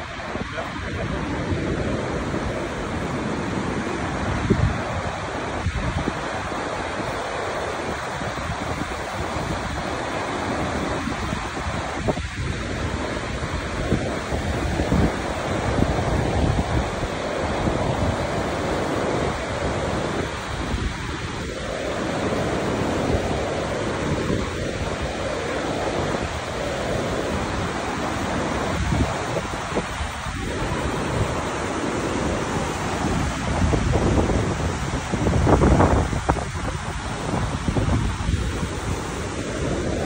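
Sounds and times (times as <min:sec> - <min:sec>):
waterfall roaring onto rocks: 0:00.0 - 0:40.0
wind buffeting microphone: 0:00.0 - 0:40.0.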